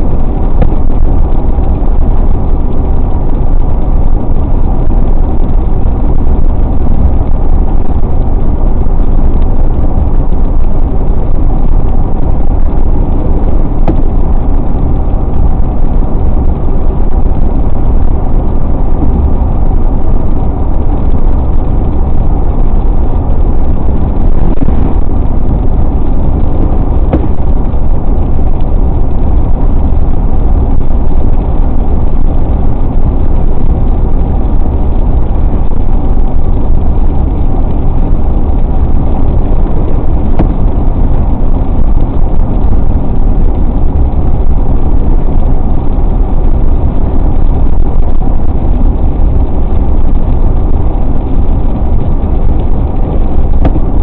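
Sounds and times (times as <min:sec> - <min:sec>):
car driving at highway speed: 0:00.0 - 0:54.0.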